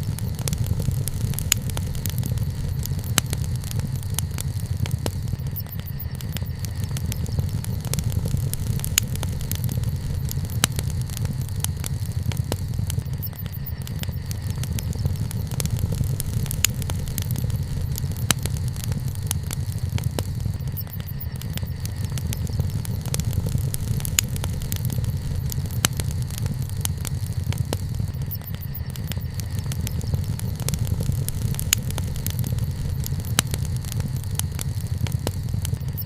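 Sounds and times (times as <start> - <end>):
bonfire crackling and popping: 0.0 - 36.0.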